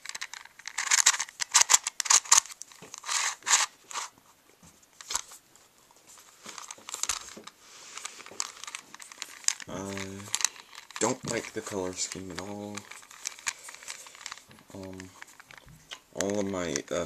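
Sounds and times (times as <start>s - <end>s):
plastic puzzle faces clicking: 0.0s - 4.1s, 6.4s - 17.0s.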